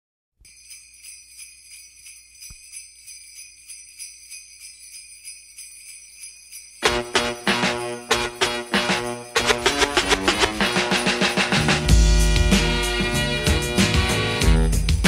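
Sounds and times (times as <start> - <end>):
sleigh bells jingling: 0.4 - 15.0.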